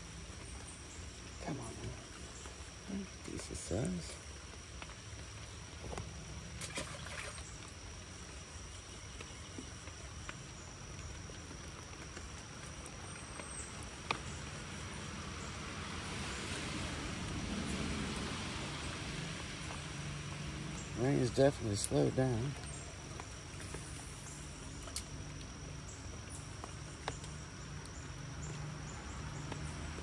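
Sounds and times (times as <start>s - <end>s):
light rain on a creek: 0.0s - 30.0s.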